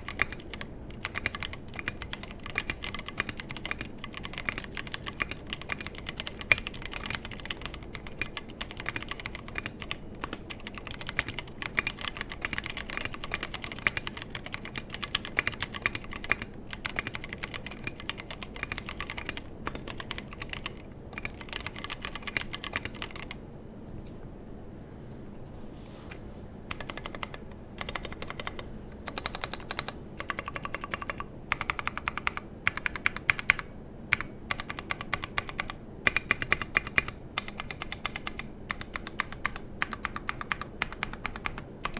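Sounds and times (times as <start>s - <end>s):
mechanical keyboard typing: 0.0s - 23.4s, 26.7s - 41.9s.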